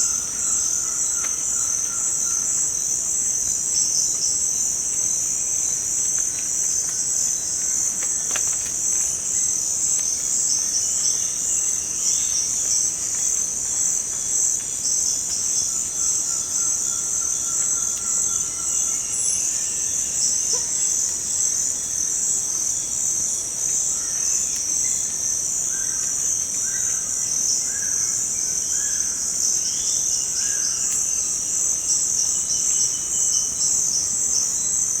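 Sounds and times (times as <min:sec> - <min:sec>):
insect chorus: 0:00.0 - 0:35.0.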